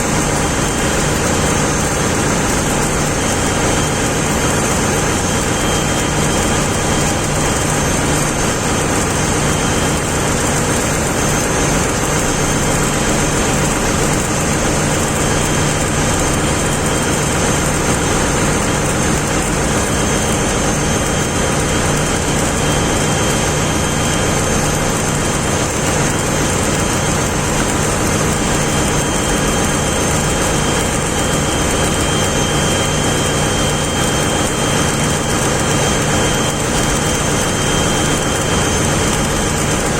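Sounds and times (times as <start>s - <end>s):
high steady whines: 0.0s - 39.9s
ship machinery drone: 0.0s - 39.9s.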